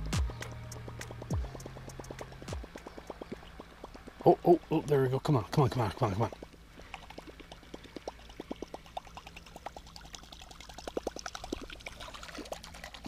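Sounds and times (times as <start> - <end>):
fishing lure plopping and gurgling: 0.2 - 4.4, 6.2 - 13.0.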